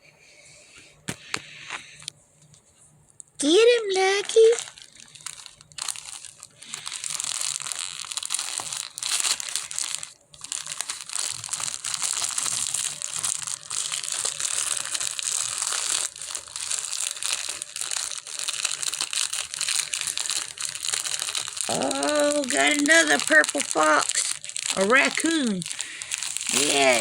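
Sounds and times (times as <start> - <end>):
gift wrapping crinkling: 3.4 - 27.0.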